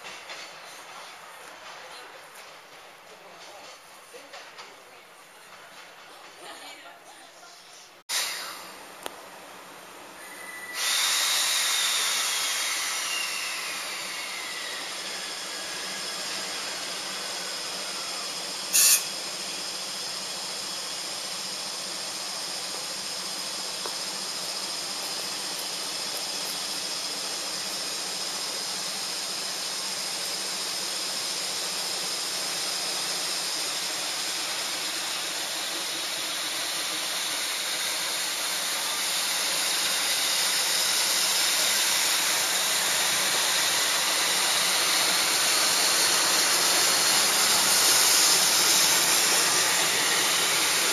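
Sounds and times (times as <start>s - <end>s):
freight train rolling slowly: 0.0s - 50.9s
steady hiss: 8.2s - 50.9s.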